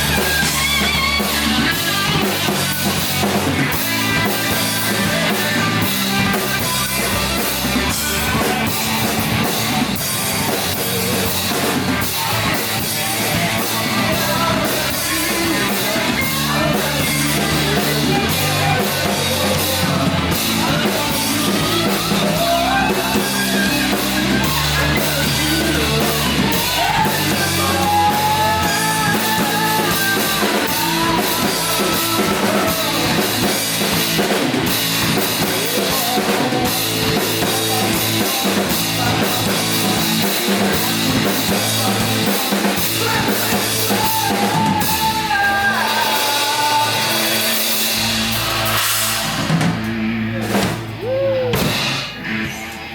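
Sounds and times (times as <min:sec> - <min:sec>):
rock band playing live: 0:00.0 - 0:52.9.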